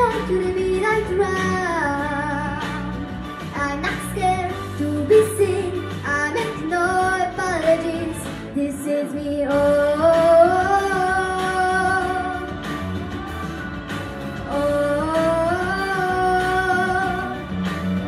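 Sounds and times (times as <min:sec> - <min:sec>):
girl singing: 0:00.0 - 0:12.6, 0:14.5 - 0:17.5
pop backing track: 0:00.0 - 0:18.0.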